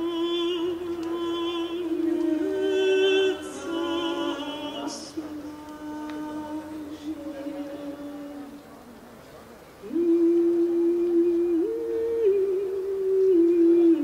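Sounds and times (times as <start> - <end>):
woman singing long notes: 0.0 - 8.8, 9.8 - 14.0.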